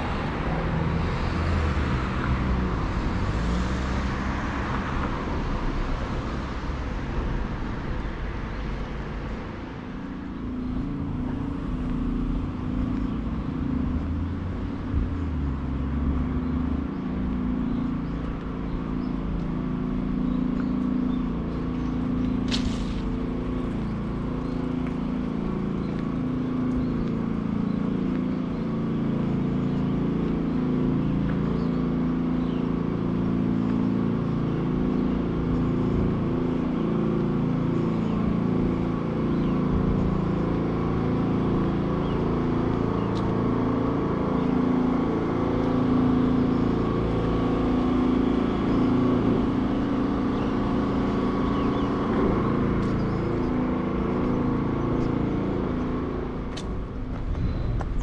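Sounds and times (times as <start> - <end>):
road traffic hum: 0.0 - 58.0.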